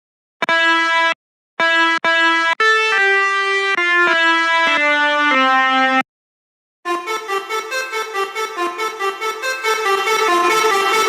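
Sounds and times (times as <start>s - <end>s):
multi-tone bus horn tune: 0.4s - 6.0s, 6.9s - 11.0s.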